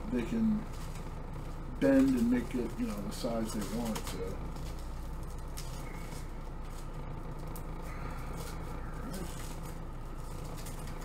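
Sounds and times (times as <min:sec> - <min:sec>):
steady low hum: 0:00.0 - 0:11.0
plastic bag crinkling: 0:00.2 - 0:11.0.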